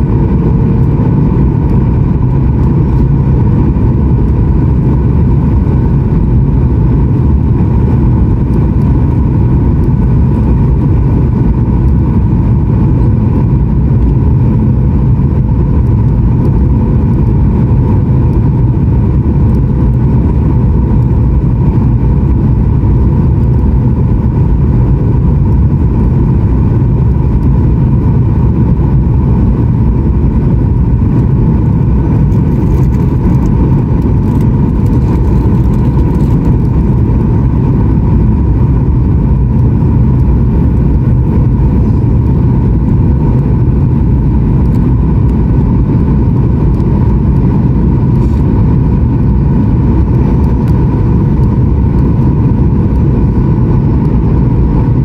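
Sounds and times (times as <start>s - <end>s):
airplane cabin roar: 0.0s - 55.0s
thin steady engine whine: 0.0s - 55.0s.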